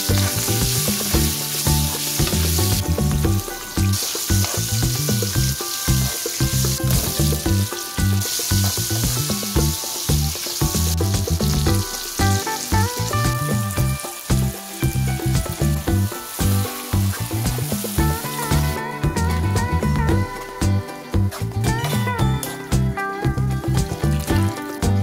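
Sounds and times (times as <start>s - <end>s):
vegetables sizzling in hot oil: 0.0s - 21.7s
background music with steady beat: 0.0s - 25.0s.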